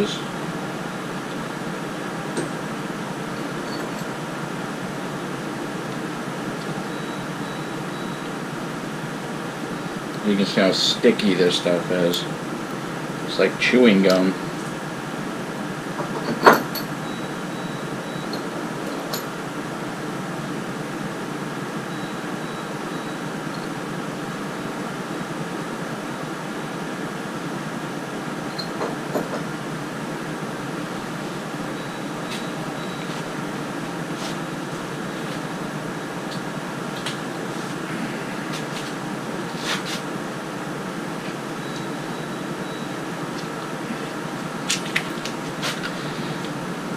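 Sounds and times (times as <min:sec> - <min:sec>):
fan-like hum: 0:00.0 - 0:46.9.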